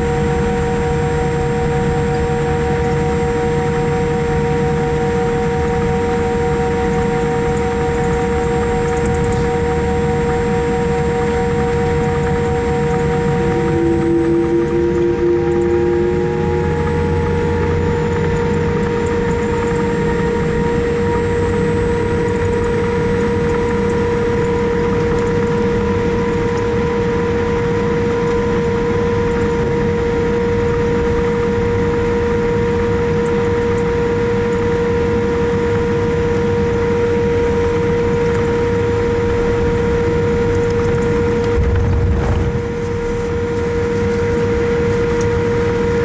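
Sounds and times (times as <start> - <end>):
airliner cabin rumble: 0.0 - 32.8, 36.4 - 46.0
engine whine: 0.0 - 46.0.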